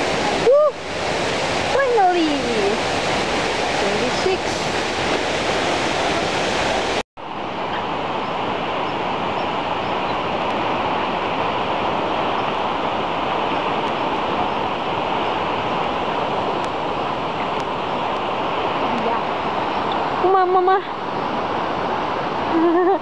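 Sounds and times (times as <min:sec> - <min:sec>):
flowing water rushing: 0:00.0 - 0:23.0.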